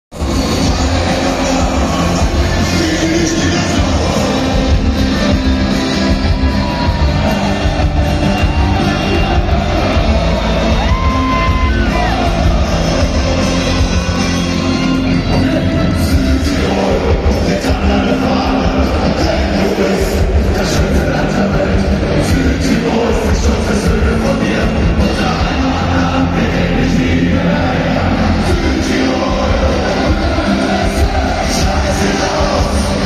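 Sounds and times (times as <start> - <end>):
crowd yelling: 0.1 - 33.0
live rock band with singing: 0.1 - 33.0.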